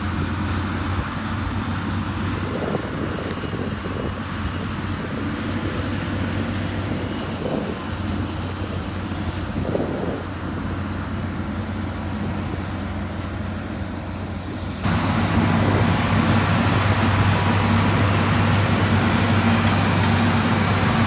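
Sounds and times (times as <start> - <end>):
diesel construction machinery running: 0.0 - 21.0.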